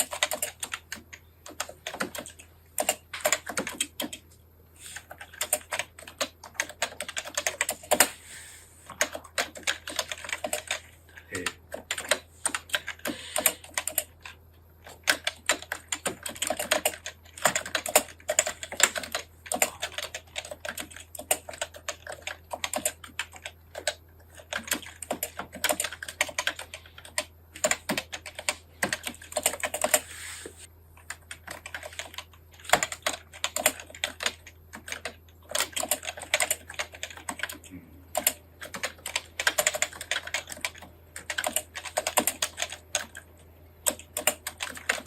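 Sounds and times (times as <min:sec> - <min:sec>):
rapid keyboard typing: 0:00.0 - 0:30.1, 0:30.9 - 0:45.0
faint low hum: 0:00.0 - 0:45.0.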